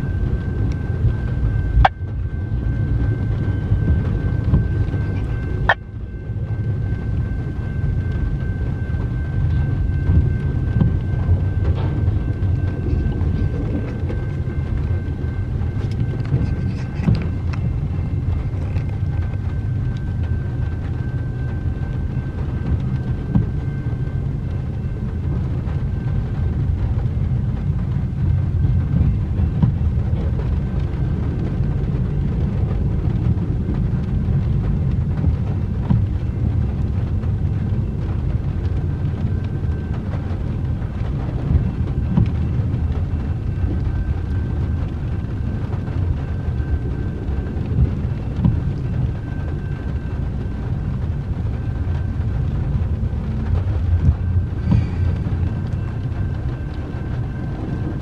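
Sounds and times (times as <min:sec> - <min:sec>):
freight train rumbling past: 0:00.0 - 0:58.0
rail clicks: 0:00.0 - 0:58.0.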